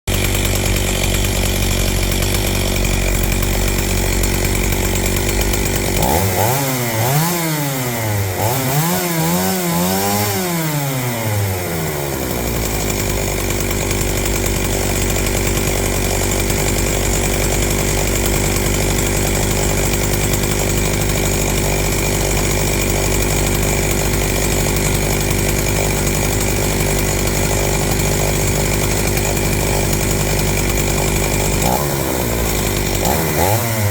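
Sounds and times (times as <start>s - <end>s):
chainsaw idling: 0.1s - 33.9s
chainsaw revving: 0.1s - 33.9s.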